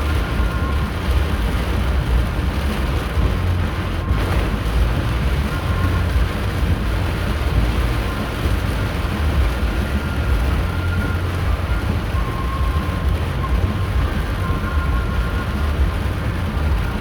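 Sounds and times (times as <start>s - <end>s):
road and engine noise inside car: 0.0s - 17.0s.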